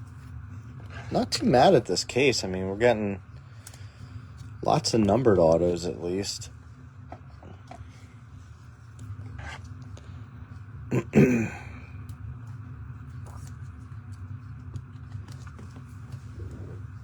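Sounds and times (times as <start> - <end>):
background hum: 0.0 - 17.0.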